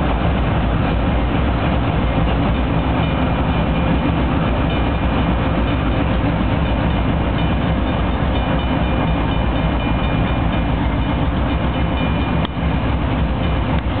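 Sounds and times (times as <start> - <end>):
deep diesel engine rumble: 0.0 - 14.0
wheel and rail noise: 0.0 - 14.0
crossing warning bell ringing: 1.7 - 14.0.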